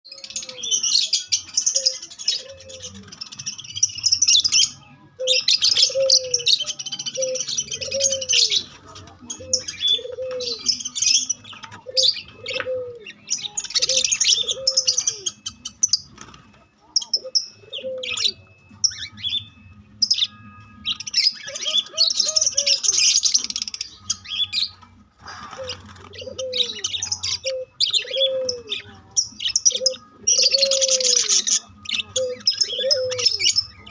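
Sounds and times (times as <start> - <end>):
birds chirping and twittering: 0.0 - 33.9
bird cooing: 0.1 - 19.4, 20.1 - 33.9.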